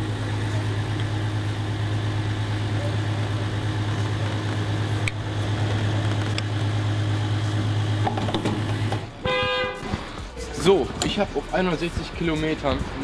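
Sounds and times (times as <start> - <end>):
fuel pump humming: 0.0 - 11.2.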